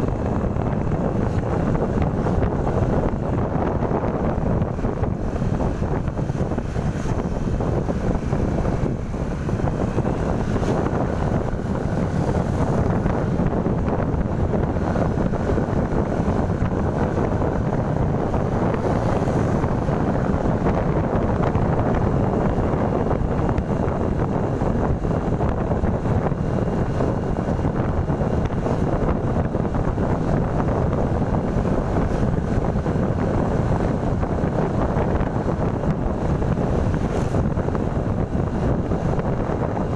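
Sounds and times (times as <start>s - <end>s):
vehicle rumble: 0.0s - 39.9s
wind buffeting microphone: 0.0s - 39.9s.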